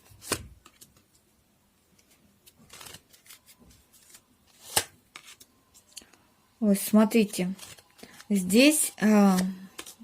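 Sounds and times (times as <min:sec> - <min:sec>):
cards rustling and tapping: 0:00.1 - 0:01.3, 0:02.0 - 0:06.2, 0:07.2 - 0:10.0.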